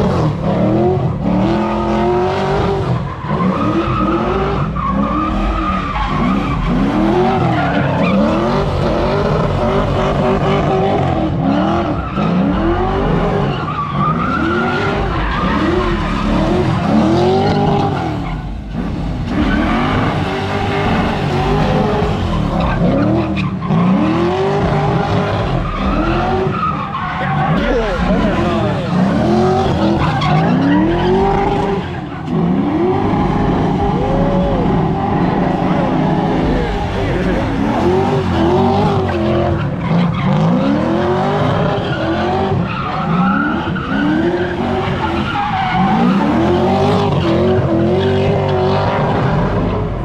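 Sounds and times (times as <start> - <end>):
car engine revving: 0.0 - 50.0
tyres squealing and skidding: 0.0 - 50.0.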